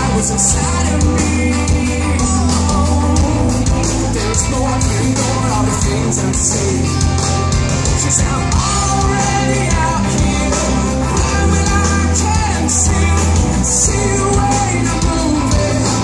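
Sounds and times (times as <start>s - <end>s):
live rock band: 0.0s - 16.0s
person singing: 0.0s - 16.0s.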